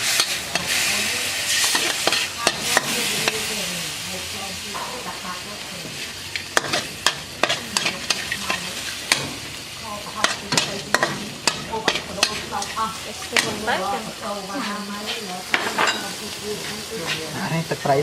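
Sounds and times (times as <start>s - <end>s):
utensil scraping a pan: 0.0s - 3.6s, 5.9s - 9.5s, 10.1s - 17.6s
food sizzling in a pan: 0.0s - 18.0s.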